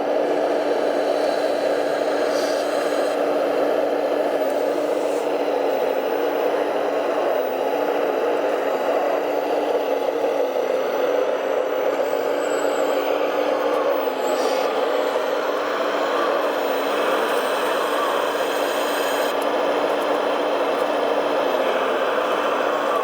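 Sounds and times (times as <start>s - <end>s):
electric motor whirring hum: 0.0s - 23.0s.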